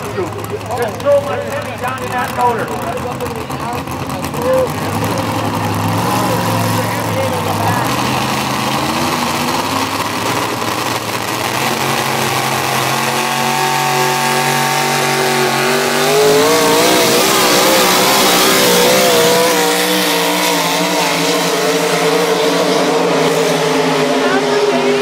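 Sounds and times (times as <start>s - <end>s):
pickup truck engine at full throttle: 0.0s - 25.0s.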